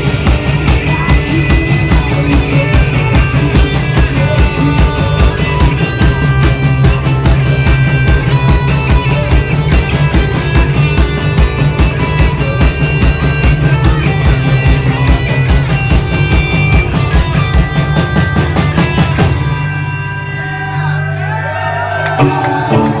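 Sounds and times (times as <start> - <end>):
fast steady drums: 0.0 - 19.6
bass guitar: 0.0 - 23.0
distorted electric guitar: 0.0 - 23.0.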